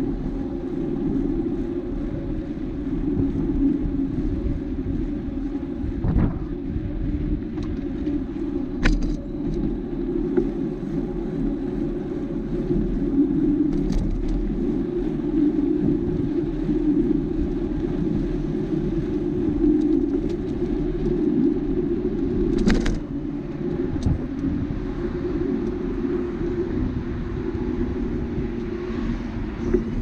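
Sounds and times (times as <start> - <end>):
bicycle rolling on asphalt: 0.0 - 30.0.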